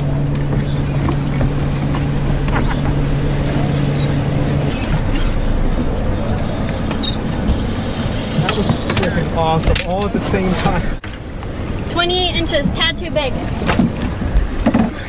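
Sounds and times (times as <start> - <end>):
low motor hum: 0.0 - 14.7
wind buffeting microphone: 0.0 - 15.0.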